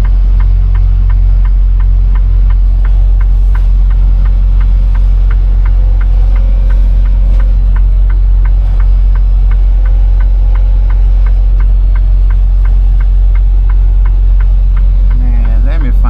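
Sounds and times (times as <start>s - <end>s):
diesel engine drone: 0.0s - 16.0s
light ticking: 0.0s - 16.0s.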